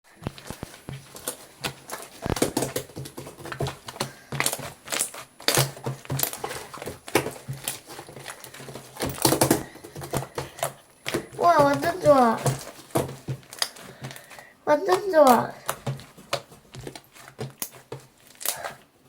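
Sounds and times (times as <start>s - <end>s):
slime squishing by hand: 0.1s - 19.0s.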